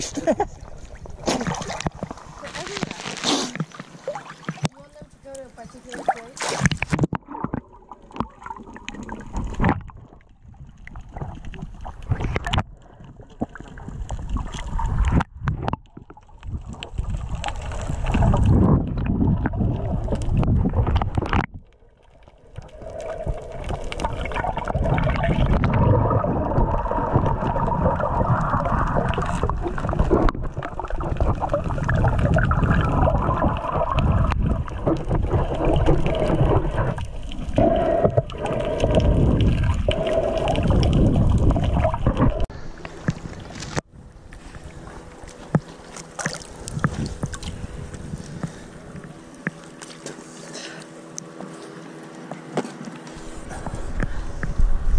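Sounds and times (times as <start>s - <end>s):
underwater sloshing and gurgling: 0.0s - 54.9s.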